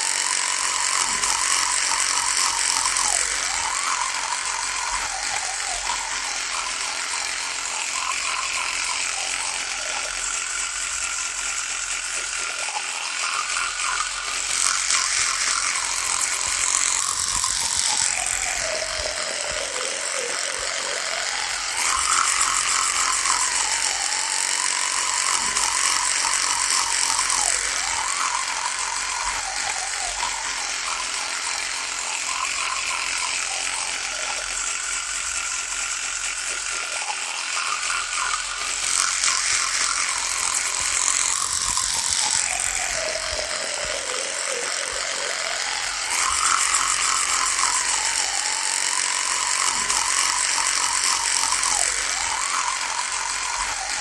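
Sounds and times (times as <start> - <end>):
electric toothbrush buzzing: 0.0 - 54.0.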